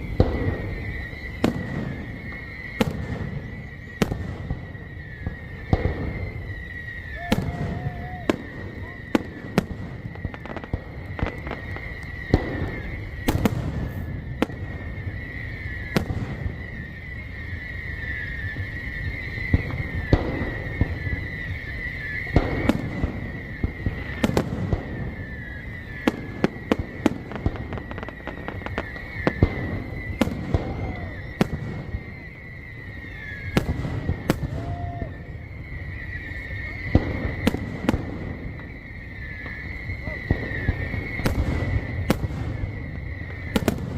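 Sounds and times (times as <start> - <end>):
fireworks bangs and crackles: 0.0 - 43.9
steady high whine: 0.0 - 43.9.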